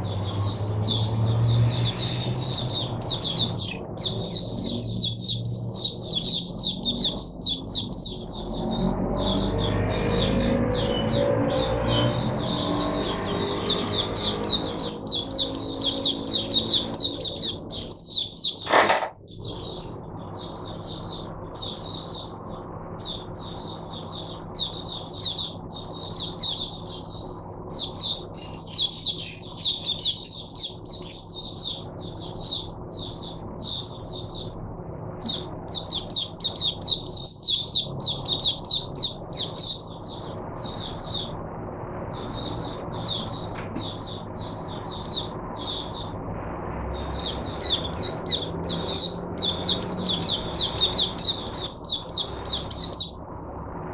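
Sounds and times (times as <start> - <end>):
bird fast high chirping song: 0.0 - 34.6, 35.2 - 41.4, 42.1 - 46.2, 47.0 - 53.2.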